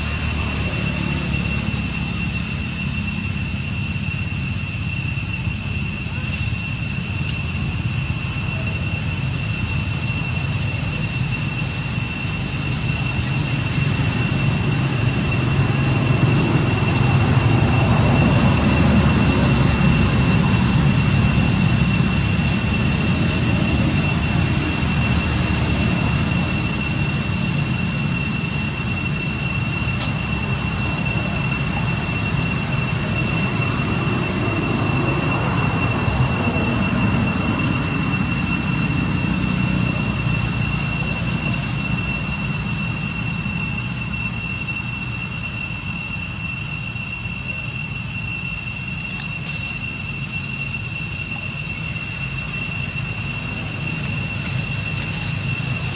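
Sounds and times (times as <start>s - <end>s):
cicadas droning: 0.0s - 55.9s.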